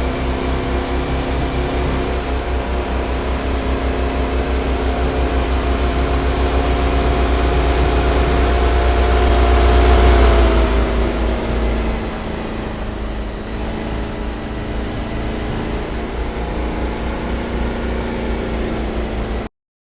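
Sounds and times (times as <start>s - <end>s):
deep rumble: 0.0s - 19.5s
van engine driving off: 0.0s - 19.5s.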